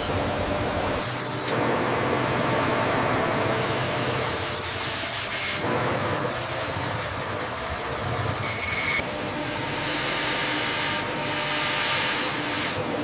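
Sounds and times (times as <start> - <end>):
mechanical factory noise: 0.0 - 13.0.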